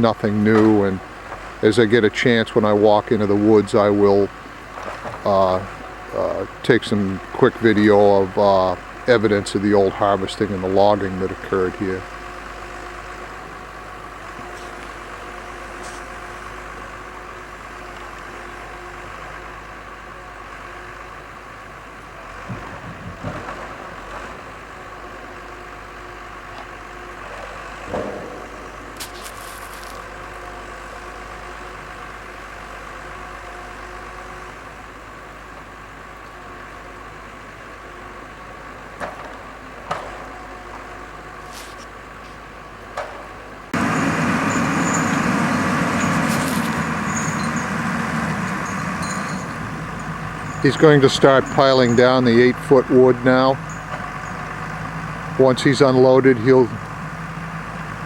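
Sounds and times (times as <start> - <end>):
loader clunks and knocks: 0.0 - 18.5, 22.2 - 25.5, 26.2 - 34.4, 38.8 - 58.0
machine engine humming: 0.0 - 58.0.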